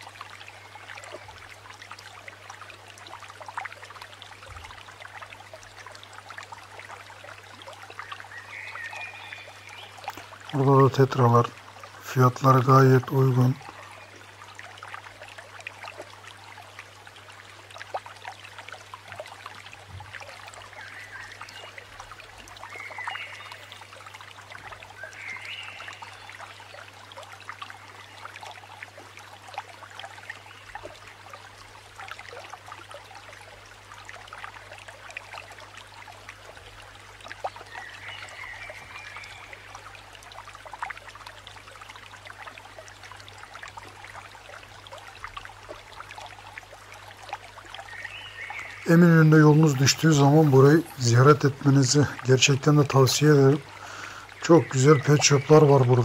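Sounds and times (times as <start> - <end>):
aquarium water bubbling: 0.0 - 56.0.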